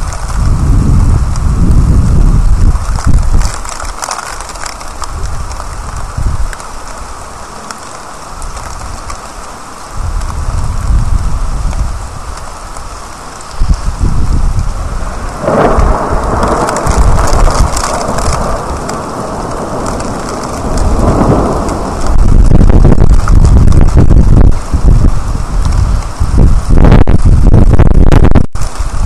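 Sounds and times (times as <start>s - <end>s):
steady rain: 0.0s - 29.0s
thunder rolling: 0.0s - 29.0s.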